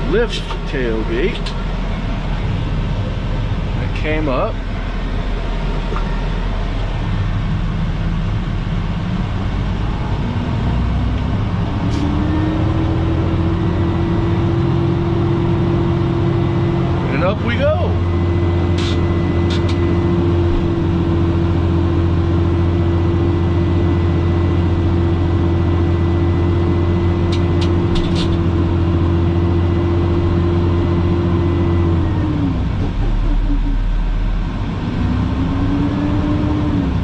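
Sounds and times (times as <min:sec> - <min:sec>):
truck engine with hydraulic whine: 0:00.0 - 0:37.0.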